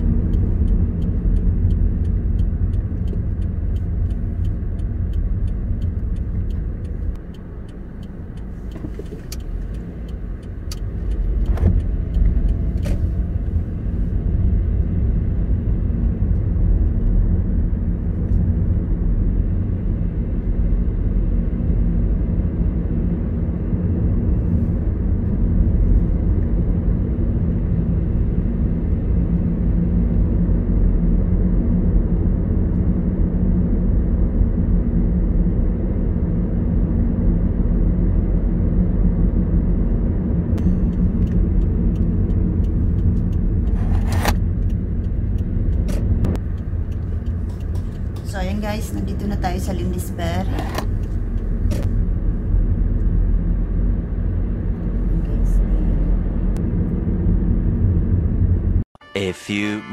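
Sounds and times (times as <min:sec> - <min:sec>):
engine and road rumble: 0:00.0 - 0:59.8.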